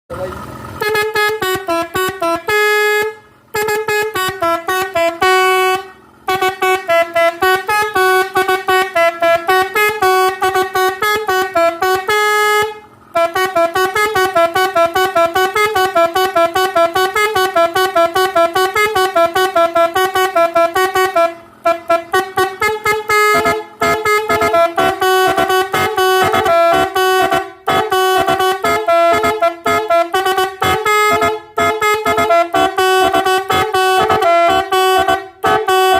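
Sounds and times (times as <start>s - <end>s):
horn playing rapid toots: 0.1s - 35.9s.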